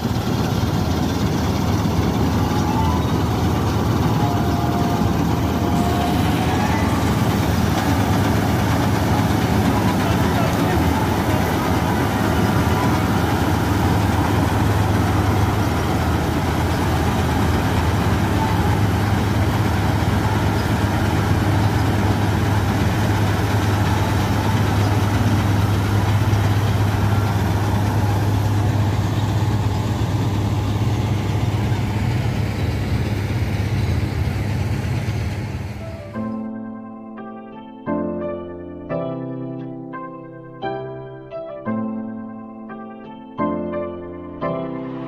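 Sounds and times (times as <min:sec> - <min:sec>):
combine harvester diesel engine: 0:00.0 - 0:36.4.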